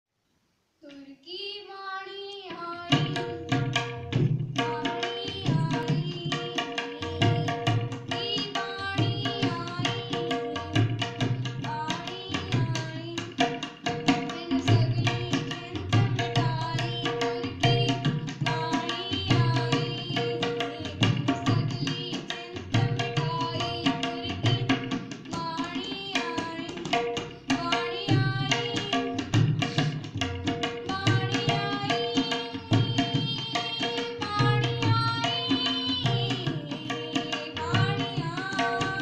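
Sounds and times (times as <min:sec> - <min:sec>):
tabla drumming: 0:02.7 - 0:39.0.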